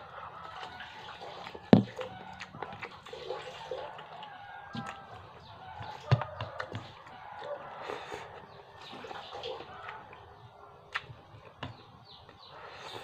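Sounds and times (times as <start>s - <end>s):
wet chewing: 0.4s - 13.0s.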